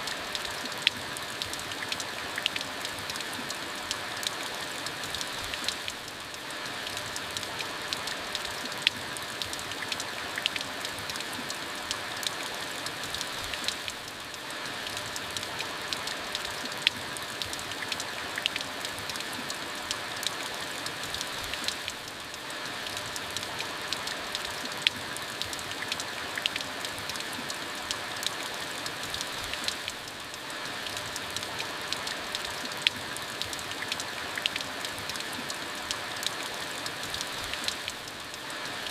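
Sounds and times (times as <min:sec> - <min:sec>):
steady rain falling: 0:00.0 - 0:38.9
raindrops ticking on hard surface: 0:00.1 - 0:38.9.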